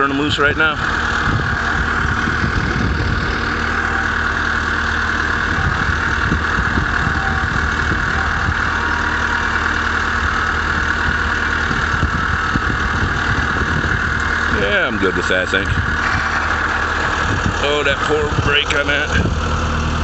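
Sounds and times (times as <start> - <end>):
engine idling: 0.0 - 20.0
high whine: 0.0 - 20.0.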